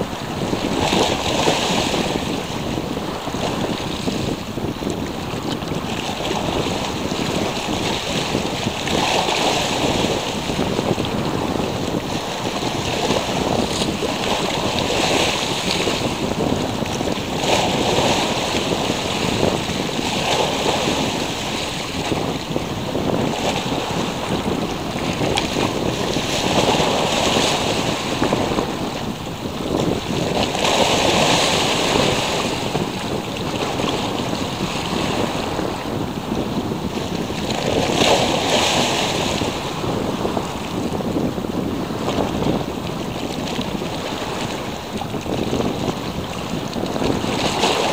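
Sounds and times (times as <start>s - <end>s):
sea waves washing: 0.0s - 47.9s
wind on microphone: 0.0s - 47.9s.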